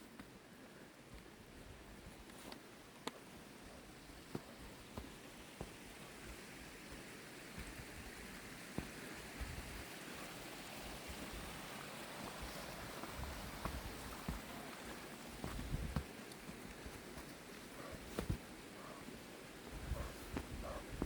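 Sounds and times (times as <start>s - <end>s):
faint footsteps: 1.1s - 10.4s, 12.1s - 21.0s
stream rushing: 2.8s - 20.3s.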